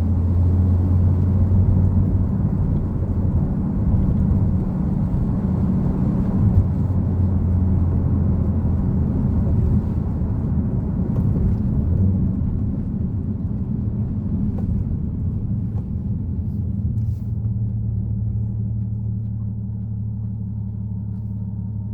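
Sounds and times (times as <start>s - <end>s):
car engine at low revs: 0.0s - 21.9s
road rumble: 0.0s - 21.9s.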